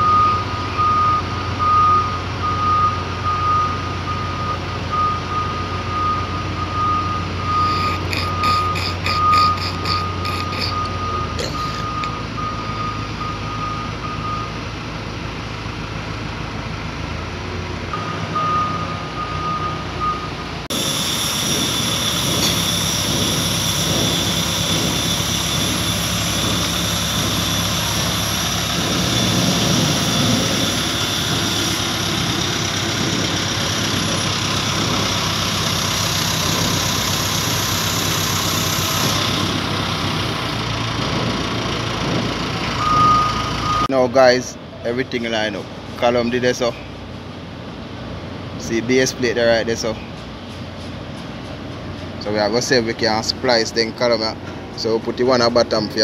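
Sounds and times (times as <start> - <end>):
diesel engine of loader running: 0.0 - 56.0.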